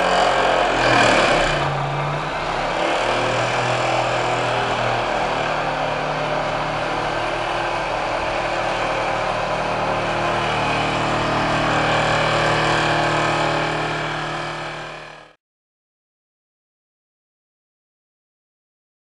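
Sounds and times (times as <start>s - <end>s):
vibratory pile hammer drone: 0.0s - 15.4s.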